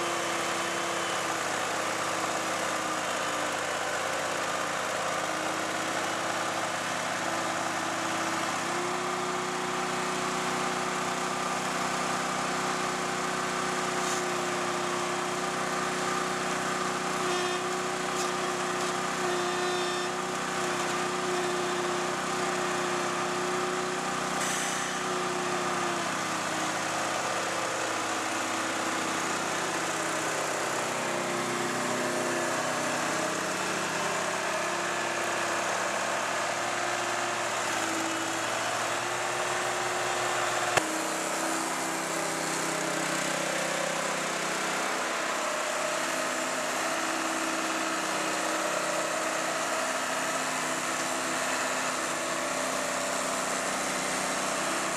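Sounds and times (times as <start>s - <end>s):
small engine and vacuum pump: 0.0s - 54.9s
truck engine running: 0.0s - 54.9s.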